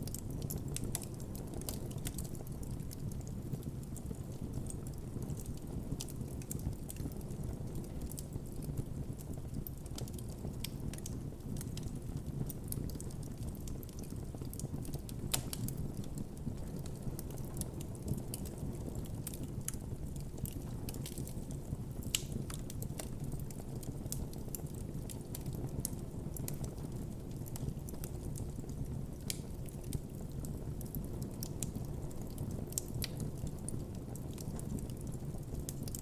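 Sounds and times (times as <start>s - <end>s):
burning wood crackling and popping: 0.0s - 36.0s
campfire flames rumbling: 0.0s - 36.0s.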